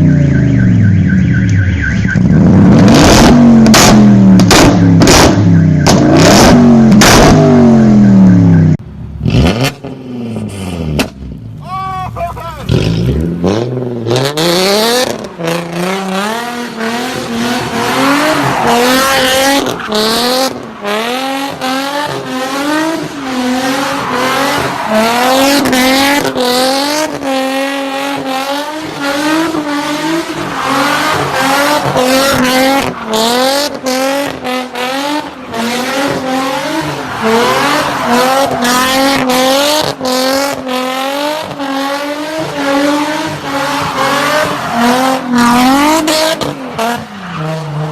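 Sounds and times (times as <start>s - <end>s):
race car engine revving: 2.0s - 8.6s, 9.2s - 11.4s, 12.6s - 47.9s.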